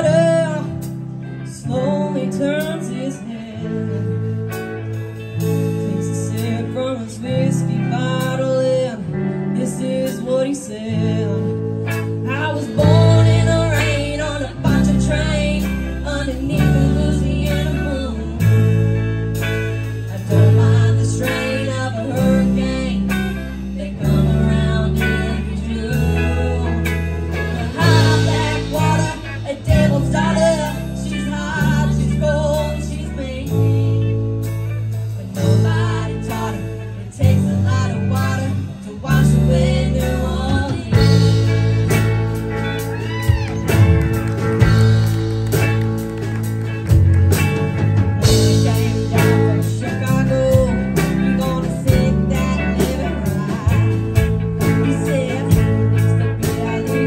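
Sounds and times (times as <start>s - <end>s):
bass line: 0.0s - 57.0s
live band playing: 0.0s - 57.0s.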